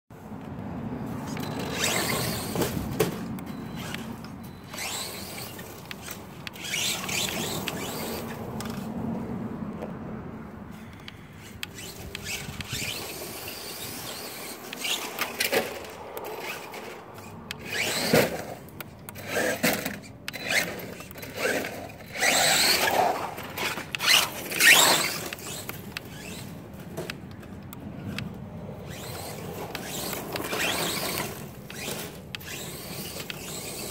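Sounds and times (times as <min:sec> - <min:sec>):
radio-controlled truck motor whining: 0:01.2 - 0:08.9, 0:10.8 - 0:33.9.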